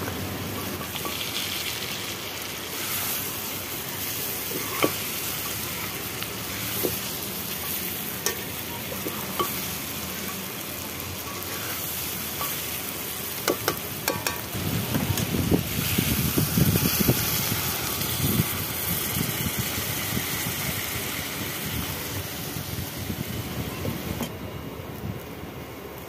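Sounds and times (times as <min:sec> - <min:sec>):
sizzling and bubbling: 0:00.0 - 0:26.0.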